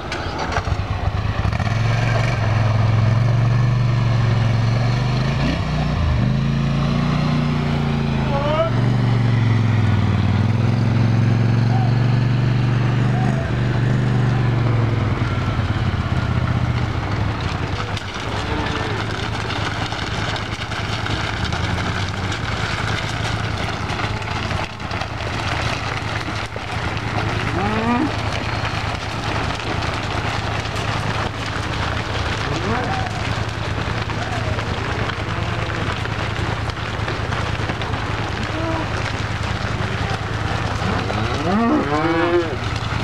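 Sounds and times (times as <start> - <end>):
cattle hooves clattering on gravel: 0.0 - 43.0.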